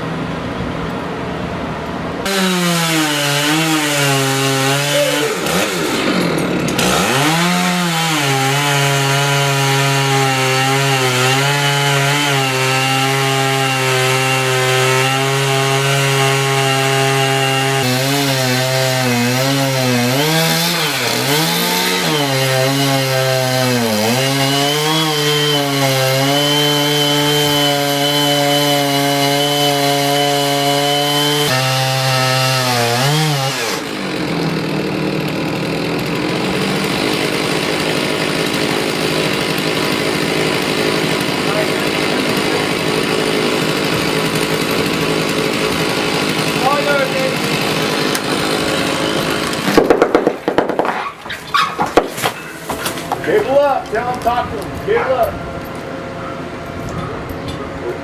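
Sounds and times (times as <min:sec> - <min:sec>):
chainsaw cutting wood: 0:01.9 - 0:55.0.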